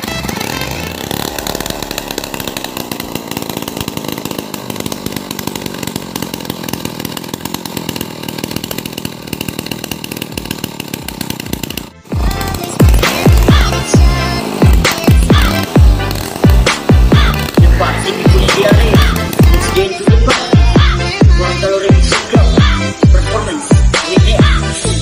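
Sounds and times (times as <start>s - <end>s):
chainsaw engine idling: 0.0s - 25.0s.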